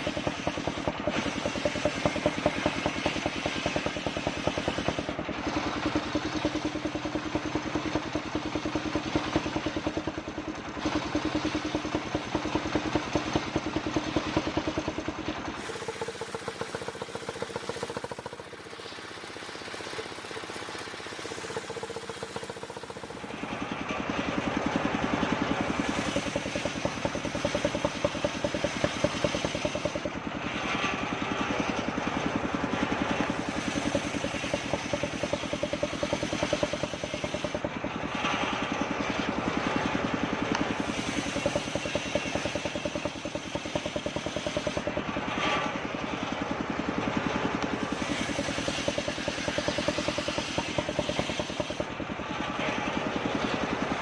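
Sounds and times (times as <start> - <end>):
circular saw sawing wood: 0.0 - 54.0.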